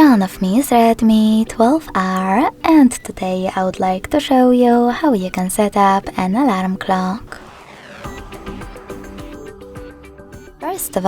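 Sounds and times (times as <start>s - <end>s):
background music sustained notes: 0.0s - 11.0s.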